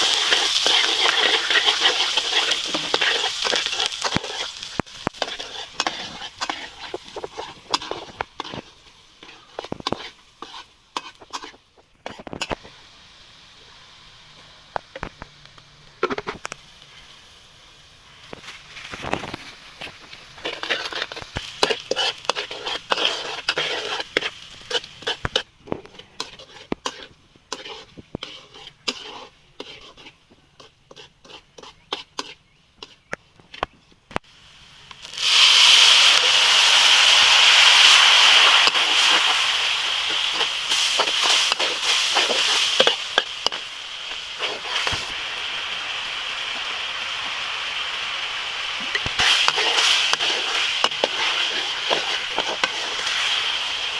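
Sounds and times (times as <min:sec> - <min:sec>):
food sizzling in hot oil: 0:00.0 - 0:33.0, 0:34.2 - 0:53.9.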